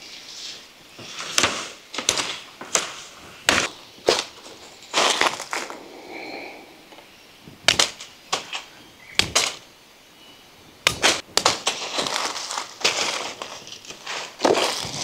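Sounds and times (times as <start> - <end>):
rustle of leaves and twigs: 0.0 - 15.0.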